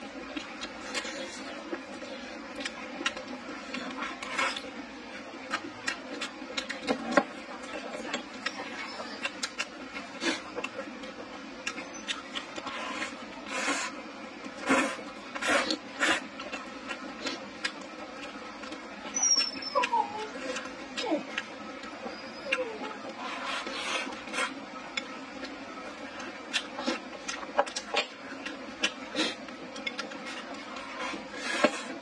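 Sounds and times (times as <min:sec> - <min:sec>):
chewing and slurping food: 0:00.2 - 0:07.3, 0:08.1 - 0:32.0.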